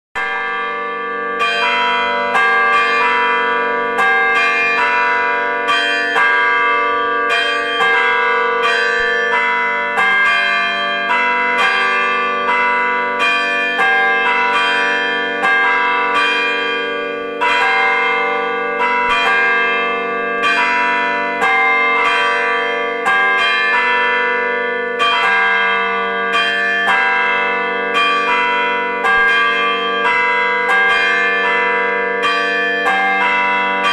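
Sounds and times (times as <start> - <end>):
church bells pealing: 0.2 - 33.9.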